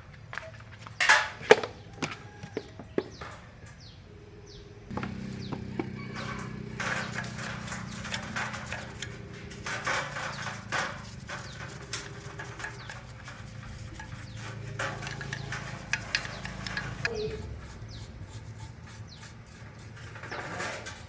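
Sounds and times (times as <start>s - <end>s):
birds chirping: 0.0s - 21.0s
steady low hum: 4.0s - 21.0s.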